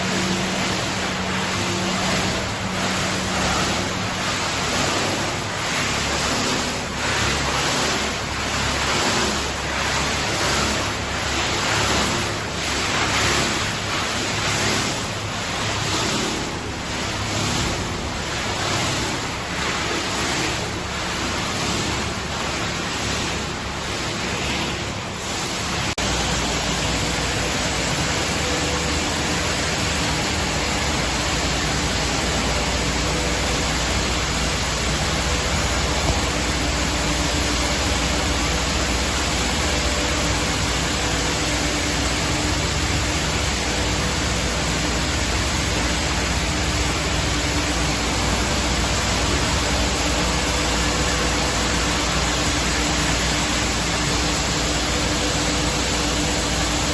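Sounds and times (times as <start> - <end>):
machinery rushing noise: 0.0 - 56.9.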